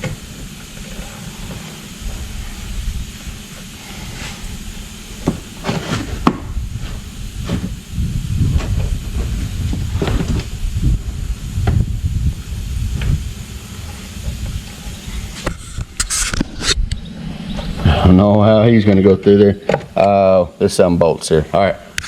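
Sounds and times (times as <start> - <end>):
steady low rumble: 0.0 - 19.3.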